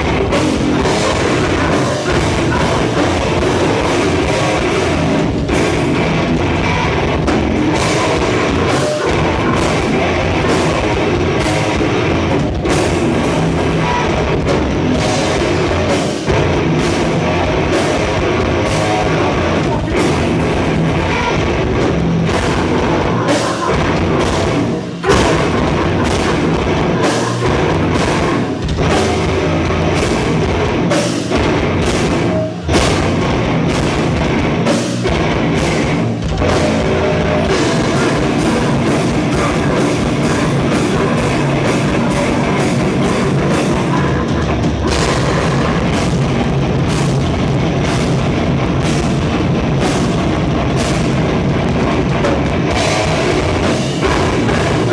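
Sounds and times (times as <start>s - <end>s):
distorted electric guitars: 0.0s - 54.9s
pounding drum kit: 0.0s - 54.9s.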